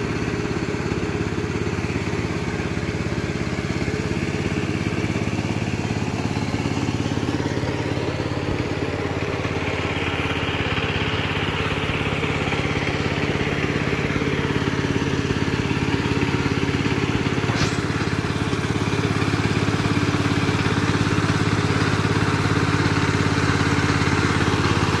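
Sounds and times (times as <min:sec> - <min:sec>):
walking tractor engine running: 0:00.0 - 0:25.0.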